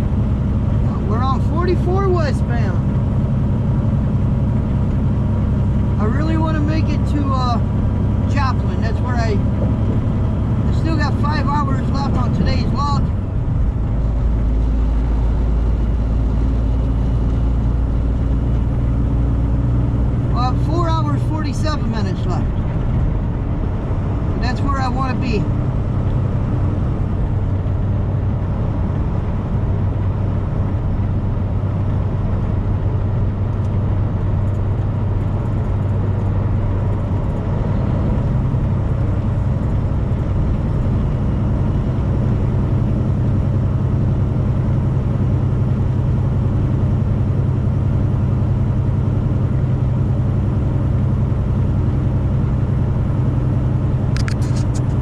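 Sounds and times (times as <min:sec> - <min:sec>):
road noise: 0:00.0 - 0:55.0
truck engine drone: 0:00.0 - 0:55.0.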